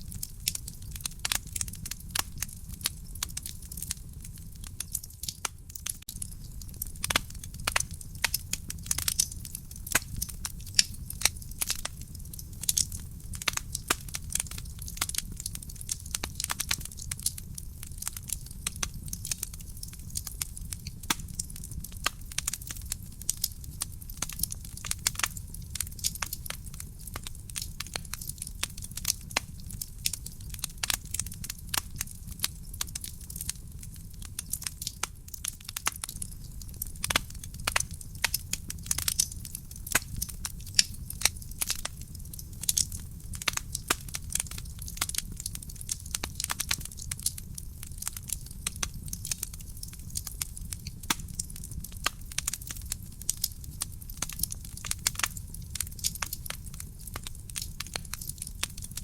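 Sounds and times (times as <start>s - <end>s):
wood fire crackling in fireplace: 0.0s - 59.0s.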